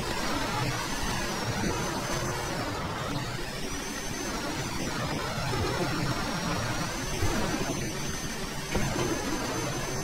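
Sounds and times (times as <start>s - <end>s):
video game truck engine drone: 0.0s - 10.0s.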